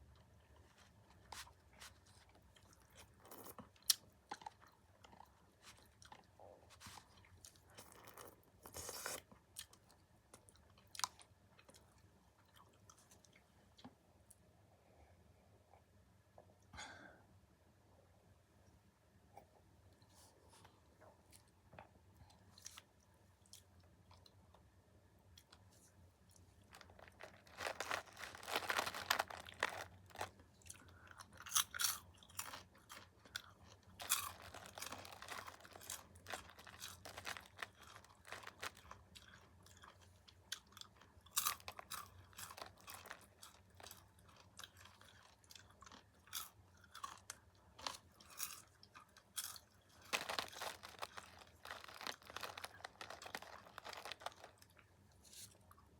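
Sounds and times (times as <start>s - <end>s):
popcorn crunching and chewing: 0.0s - 14.4s, 19.9s - 55.9s.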